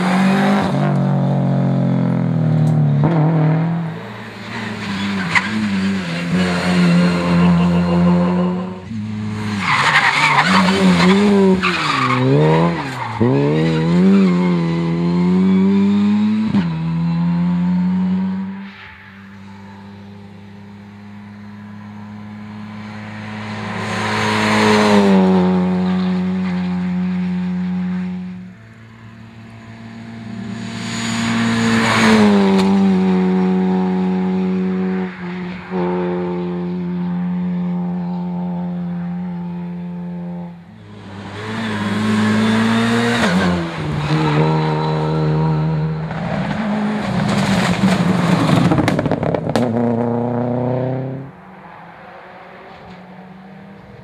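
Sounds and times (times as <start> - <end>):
rally car engine revving: 0.0 - 18.6, 19.4 - 54.0.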